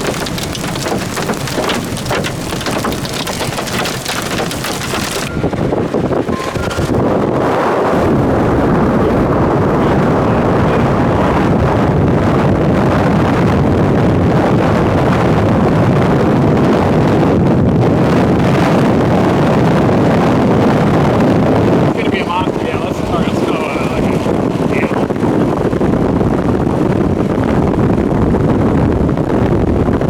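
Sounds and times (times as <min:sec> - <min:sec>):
strong wind on microphone: 0:03.5 - 0:30.0.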